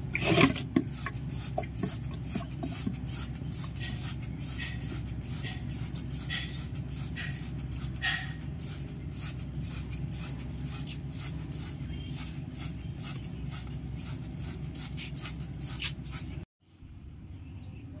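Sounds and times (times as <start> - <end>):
steady low rumble: 0.0 - 18.0
trigger sprayer squirting: 0.3 - 16.4.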